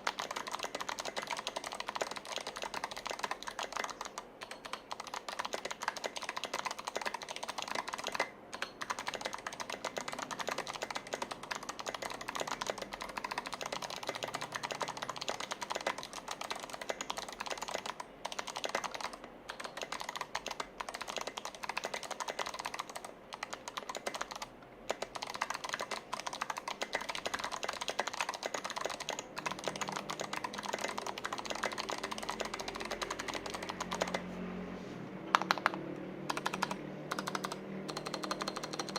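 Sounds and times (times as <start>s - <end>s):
fast typing on mechanical keyboard: 0.0s - 34.3s, 35.3s - 38.9s.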